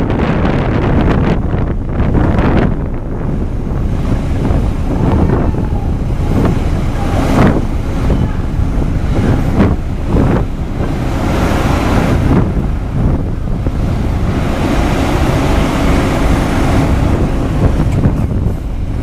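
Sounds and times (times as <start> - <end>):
churning harbour water: 0.0 - 19.0
ship propellers and thrusters: 0.0 - 19.0
steady low rumble: 0.0 - 19.0
wind buffeting microphone: 0.0 - 19.0.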